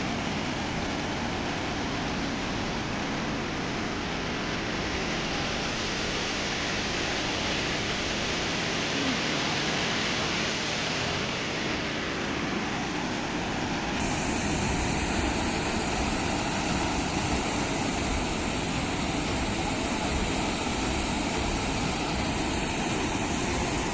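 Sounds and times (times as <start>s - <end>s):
water rushing through dam gate: 0.0s - 23.9s.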